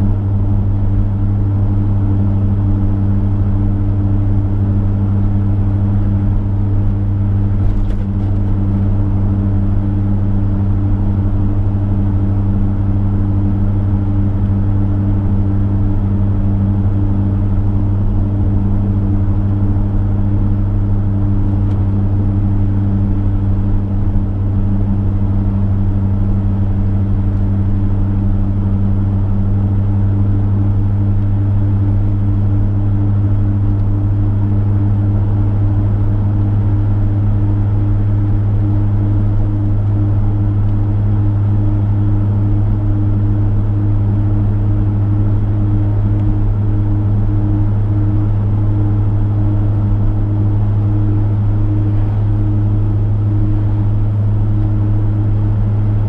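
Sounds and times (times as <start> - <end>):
car engine droning: 0.0 - 56.0.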